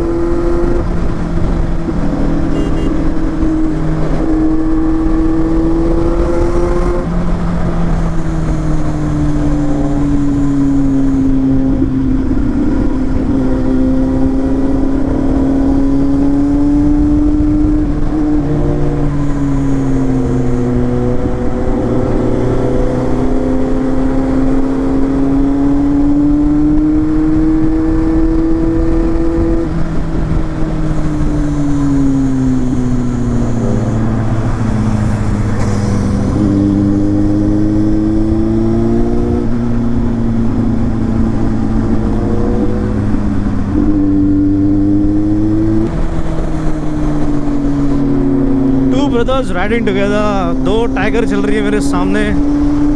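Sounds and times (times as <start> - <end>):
low wind rumble: 0.0 - 52.9
motorcycle engine changing gears: 0.0 - 52.9.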